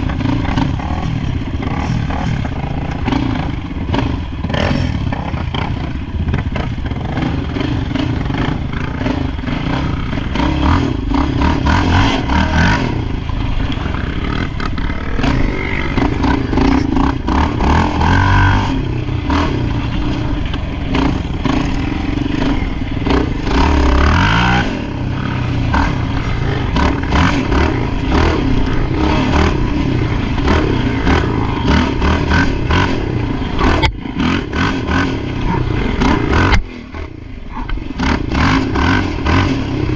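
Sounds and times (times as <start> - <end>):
atv engine revving: 0.0 - 39.9
rattling over rough ground: 0.0 - 39.9.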